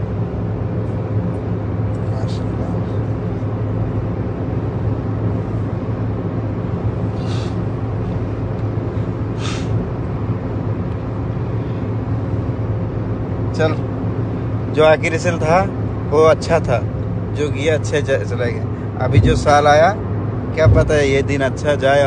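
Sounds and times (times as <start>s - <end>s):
car cabin road noise: 0.0s - 22.0s.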